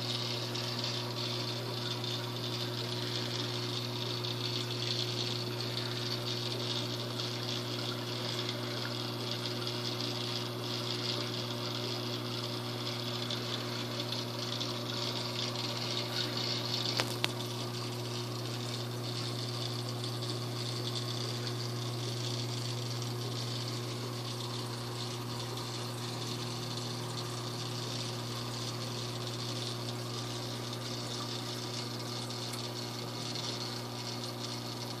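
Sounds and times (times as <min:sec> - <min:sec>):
aquarium pump humming: 0:00.0 - 0:35.0.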